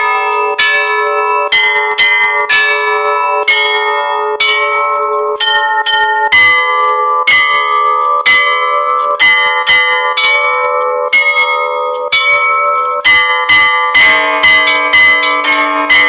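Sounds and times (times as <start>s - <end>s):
church bells pealing: 0.0s - 16.0s
deep bell ringing: 0.0s - 16.0s.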